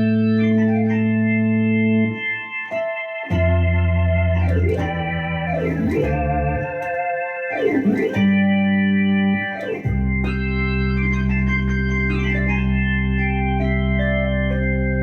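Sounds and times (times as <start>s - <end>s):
sustained bass note: 0.0s - 2.2s, 3.3s - 15.0s
synthesizer organ chords: 0.0s - 15.0s.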